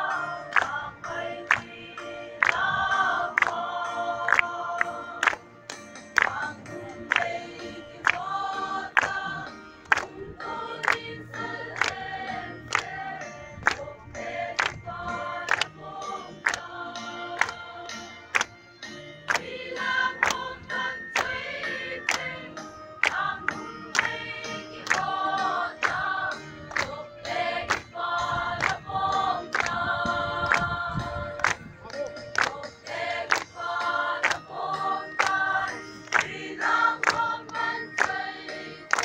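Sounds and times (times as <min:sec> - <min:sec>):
choir singing in harmony: 0:00.0 - 0:18.4, 0:19.2 - 0:31.6, 0:32.3 - 0:39.0.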